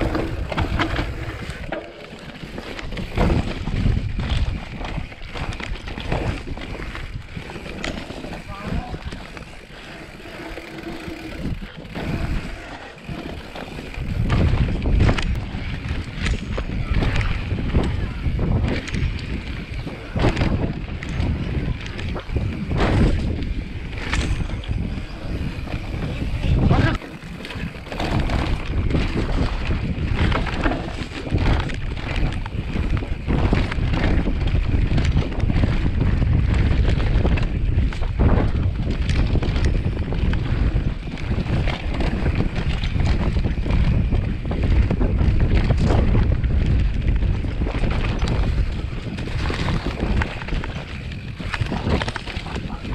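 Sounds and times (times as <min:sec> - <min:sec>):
mountain bike rumbling and rattling: 0:00.0 - 0:52.9
wind buffeting microphone: 0:00.0 - 0:52.9.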